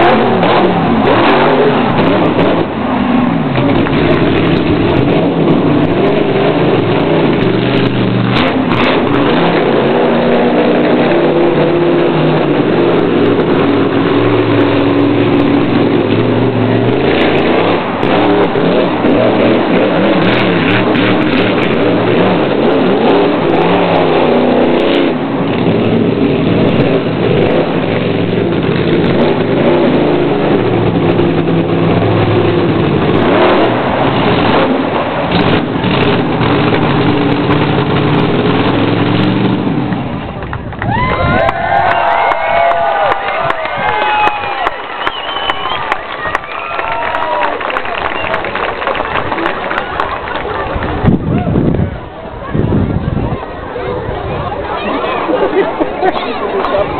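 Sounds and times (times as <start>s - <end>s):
truck engine revving: 0.0s - 56.9s.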